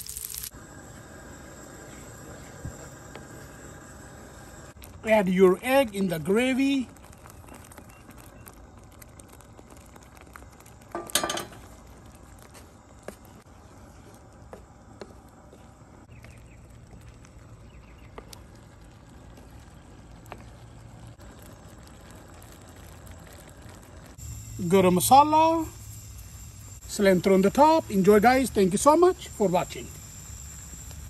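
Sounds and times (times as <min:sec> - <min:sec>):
gravy simmering in a pan: 0:00.0 - 0:31.0.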